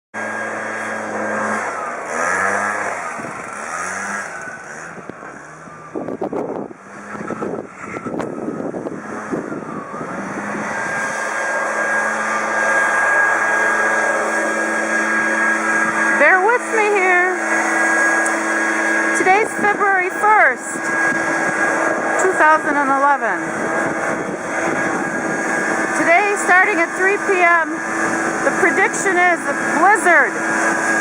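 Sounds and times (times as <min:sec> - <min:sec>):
leaf blower engine revving: 0:00.2 - 0:31.0.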